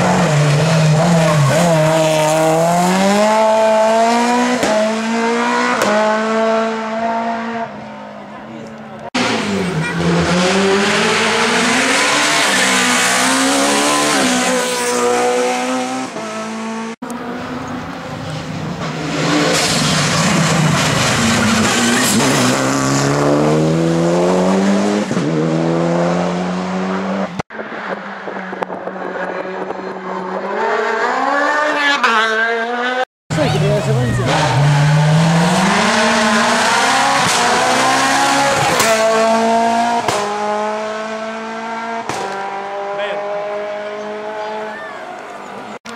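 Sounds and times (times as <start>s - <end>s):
racing car engines revving by: 0.0s - 45.9s.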